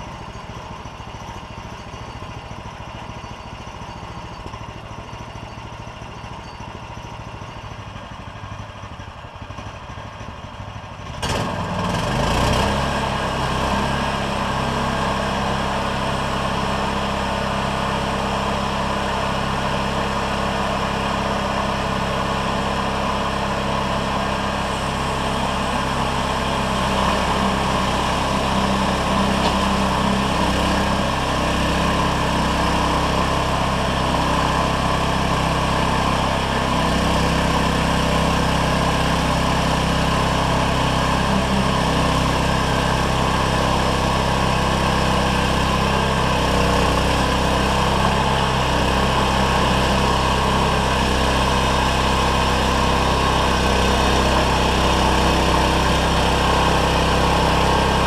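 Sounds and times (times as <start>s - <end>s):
bandsaw mill gasoline engine: 0.0s - 58.0s.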